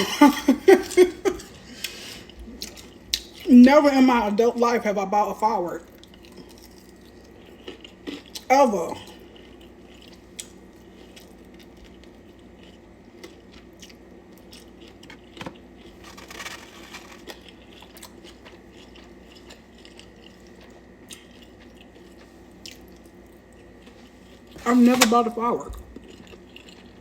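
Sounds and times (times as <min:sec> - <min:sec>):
person chewing food: 0:00.9 - 0:03.5, 0:05.9 - 0:24.6, 0:25.7 - 0:27.0.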